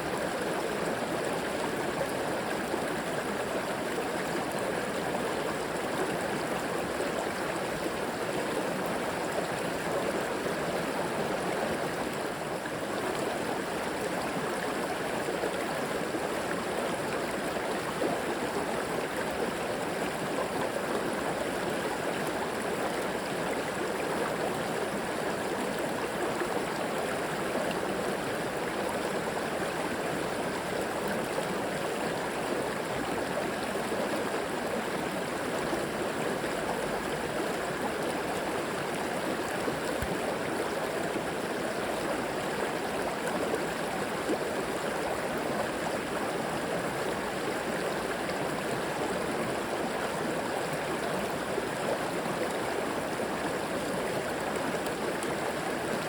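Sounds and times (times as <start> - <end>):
river water flowing over rocks: 0.0 - 56.0.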